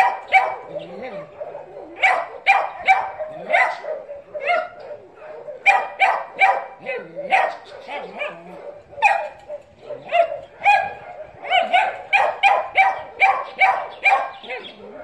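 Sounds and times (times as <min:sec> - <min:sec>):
dog barking: 0:00.0 - 0:15.0.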